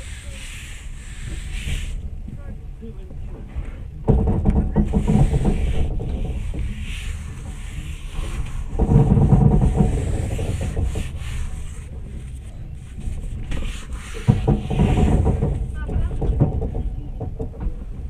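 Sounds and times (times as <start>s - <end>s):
moving train rumble and rattle: 0.0s - 18.0s.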